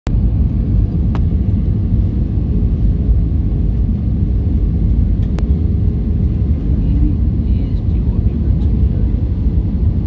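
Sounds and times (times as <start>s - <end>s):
airliner engines rumbling: 0.1s - 10.0s.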